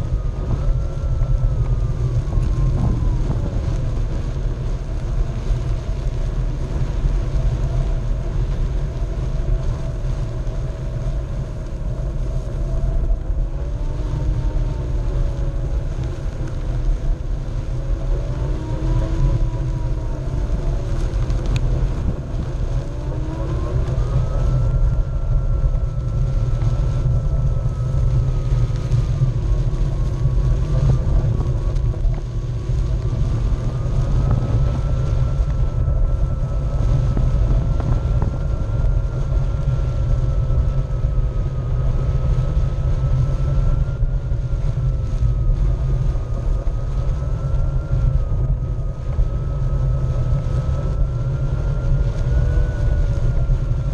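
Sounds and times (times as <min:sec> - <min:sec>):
electric hub motor whining: 0:00.0 - 0:53.9.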